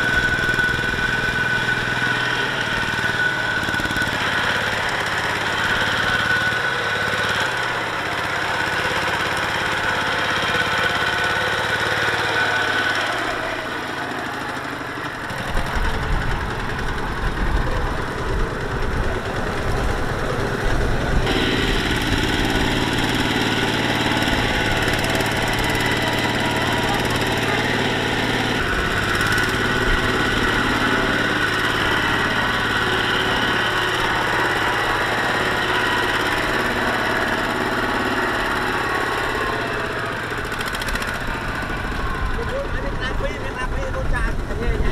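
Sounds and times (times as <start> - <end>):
diesel tractor engine running hard: 0.0 - 44.9.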